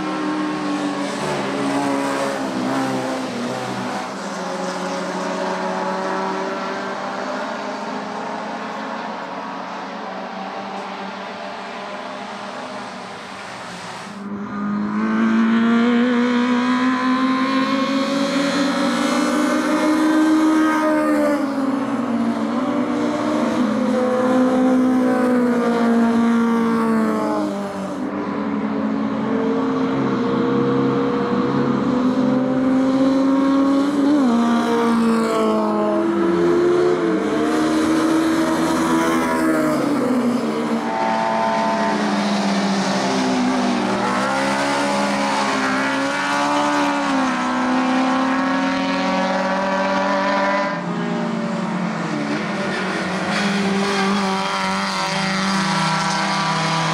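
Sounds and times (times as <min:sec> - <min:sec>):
racing cars passing: 0:00.0 - 0:56.9.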